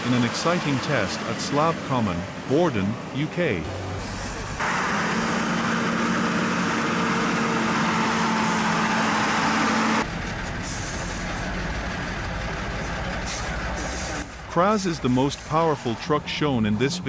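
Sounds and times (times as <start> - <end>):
heavy truck engine running: 0.0 - 16.9.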